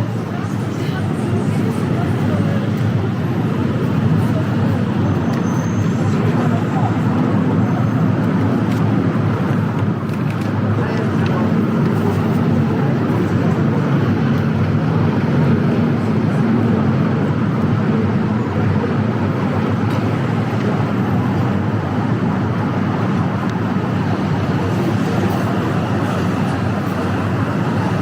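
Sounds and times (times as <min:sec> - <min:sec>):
traffic noise: 0:00.0 - 0:28.0.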